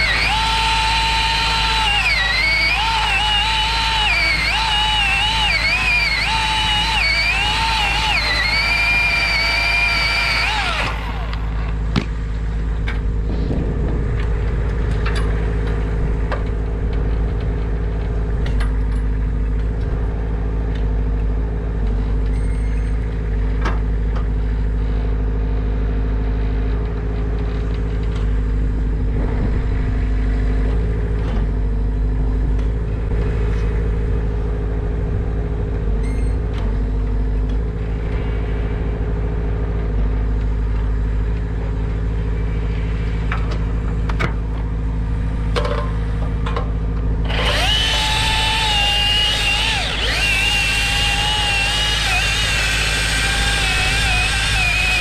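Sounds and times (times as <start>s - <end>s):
large engine rumbling: 0.0s - 55.0s.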